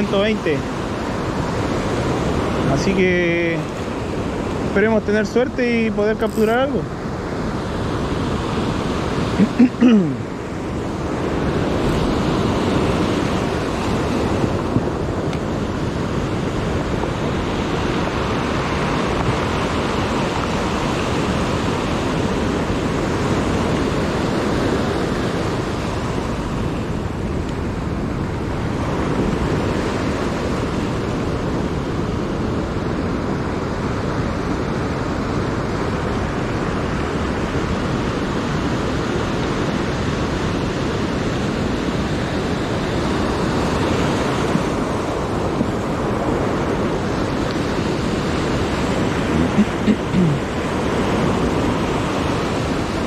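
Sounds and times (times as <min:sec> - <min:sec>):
surf breaking on a beach: 0:00.0 - 0:53.0.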